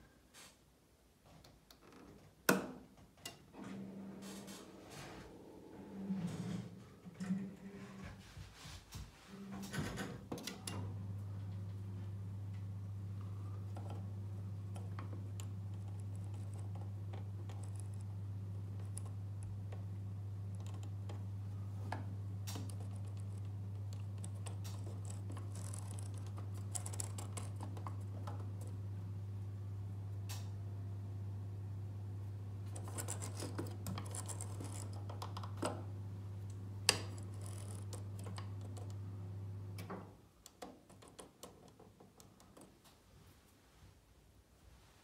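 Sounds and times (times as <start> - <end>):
boiler low hum: 3.4 - 8.4, 9.3 - 40.6.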